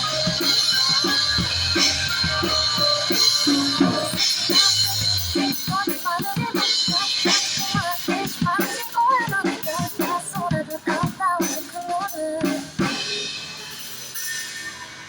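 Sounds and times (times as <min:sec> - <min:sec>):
drum kit beat: 0:00.0 - 0:14.4.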